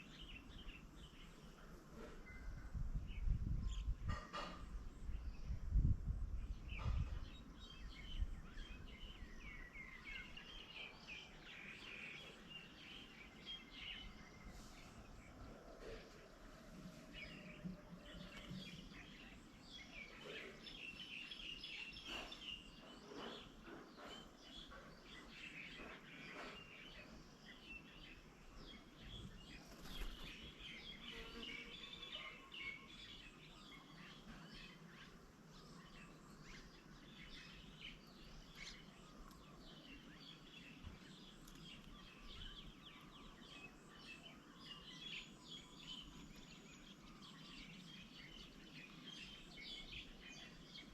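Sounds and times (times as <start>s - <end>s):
low steady background noise: 0.0s - 50.9s
small birds chirping: 0.0s - 50.9s.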